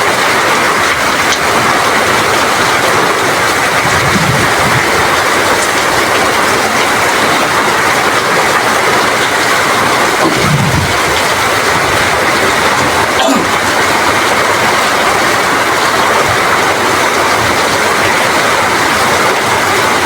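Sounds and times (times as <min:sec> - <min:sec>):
heavy rain in strong wind: 0:00.0 - 0:20.0
low rumbling wind gusts: 0:00.3 - 0:20.0.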